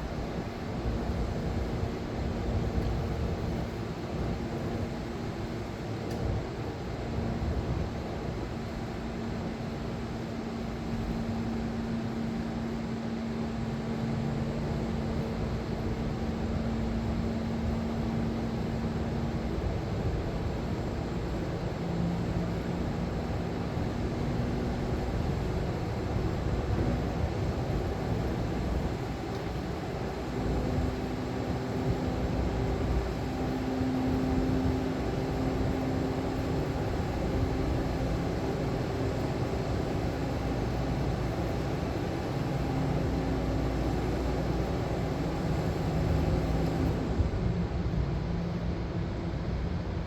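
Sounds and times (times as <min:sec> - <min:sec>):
hvac mechanical drone and rushing: 0:00.0 - 0:50.0.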